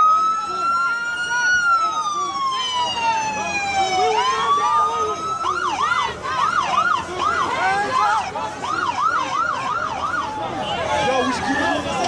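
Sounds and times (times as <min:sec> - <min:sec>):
police car siren: 0:00.0 - 0:12.0.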